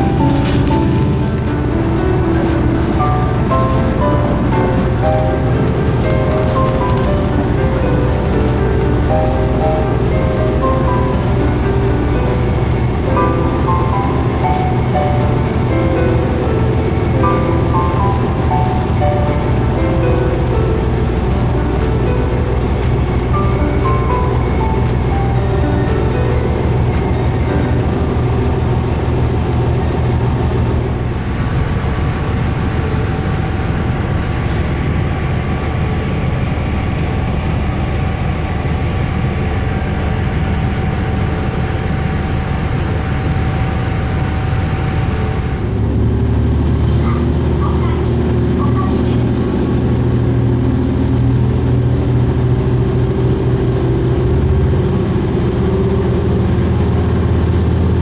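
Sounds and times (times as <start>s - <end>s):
diesel railcar engine drone: 0.0s - 58.0s
higher whine: 0.0s - 58.0s.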